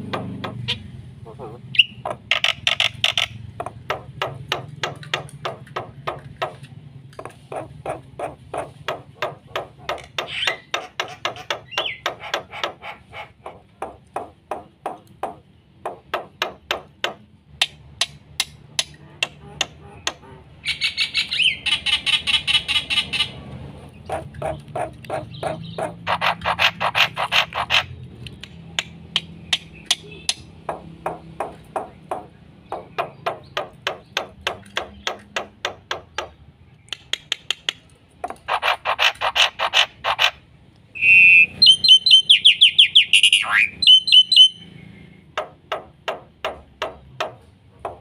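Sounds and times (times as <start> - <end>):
bird high chattering: 0.0 - 6.5, 7.2 - 16.9, 18.0 - 40.4, 41.0 - 45.1
bird clicking song: 0.0 - 48.0.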